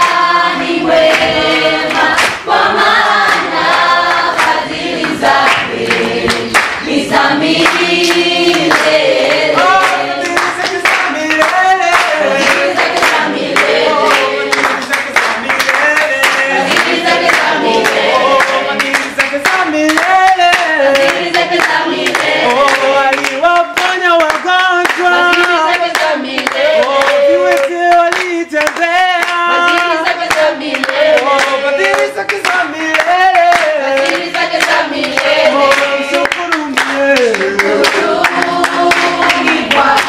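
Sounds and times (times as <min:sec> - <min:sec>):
group singing worship song: 0:00.0 - 0:40.0
hands clapping to beat: 0:00.0 - 0:40.0.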